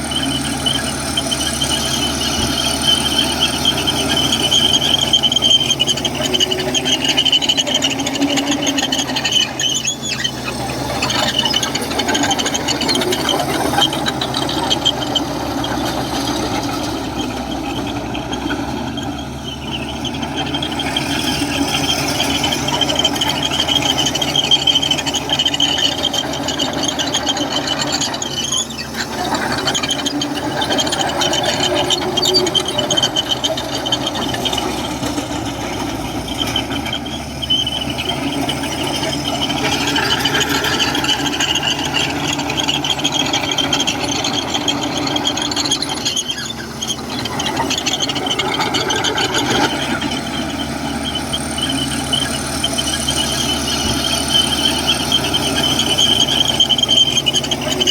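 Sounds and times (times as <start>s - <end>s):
bulldozer diesel engine under load: 0.0s - 57.9s
steel tracks squealing: 0.0s - 57.9s.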